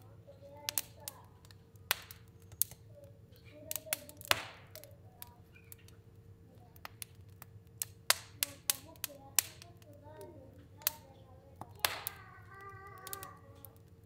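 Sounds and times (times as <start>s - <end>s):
fire crackling: 0.0s - 14.0s
sharp pops from fire: 0.0s - 14.0s.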